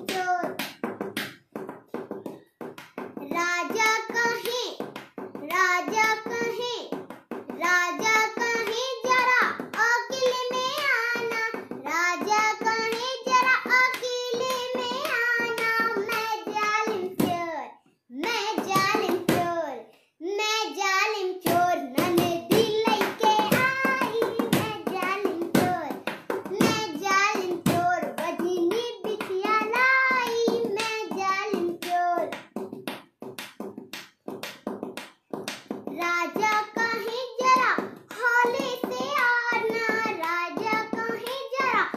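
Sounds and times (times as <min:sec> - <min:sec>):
girl singing unaccompanied: 0:00.0 - 0:41.9.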